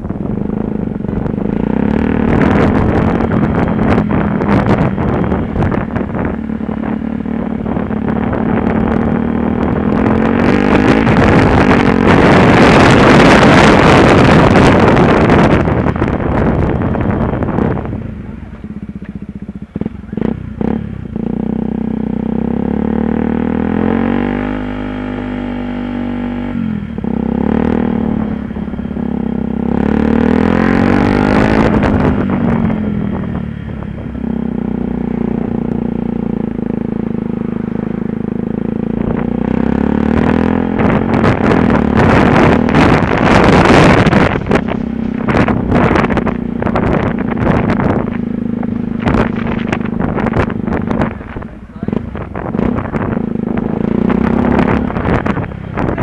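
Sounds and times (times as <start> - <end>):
motorcycle engine running: 0.0 - 56.0
rushing wind noise: 0.0 - 56.0.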